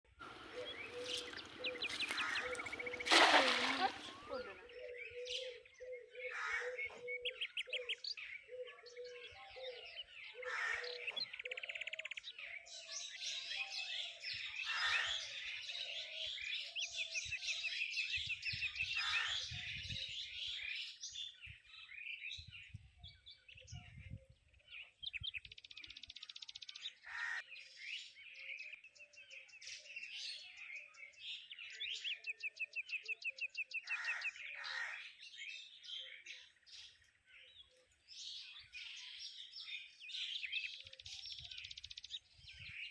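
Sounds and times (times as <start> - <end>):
birds chirping and singing: 0.2 - 42.9.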